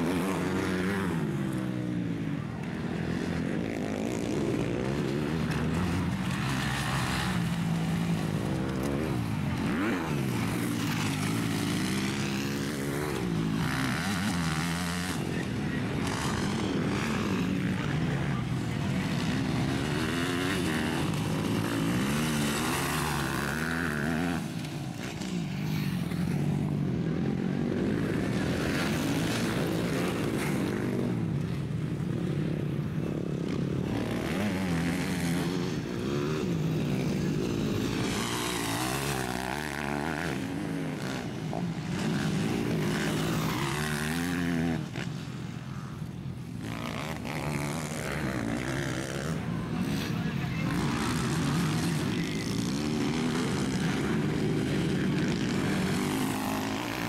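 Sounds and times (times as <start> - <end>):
motocross engines revving: 0.0 - 57.0.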